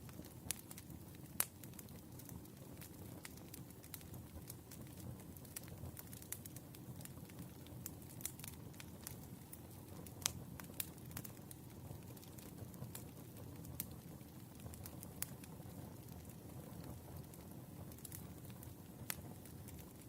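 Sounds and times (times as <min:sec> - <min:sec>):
firewood crackling and popping: 0:00.0 - 0:20.0
low rumble of fire: 0:00.0 - 0:20.0.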